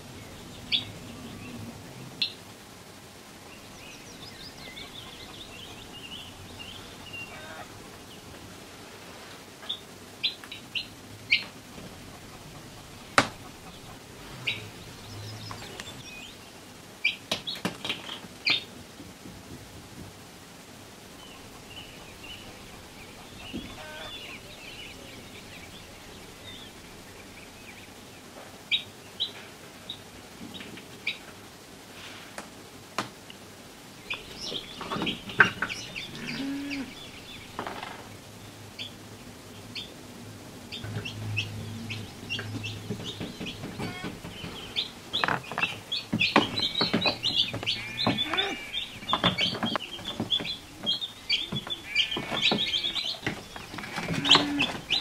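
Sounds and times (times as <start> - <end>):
chicks peeping: 0.0 - 2.5, 3.3 - 18.8, 21.0 - 31.5, 33.9 - 40.0, 40.6 - 55.0.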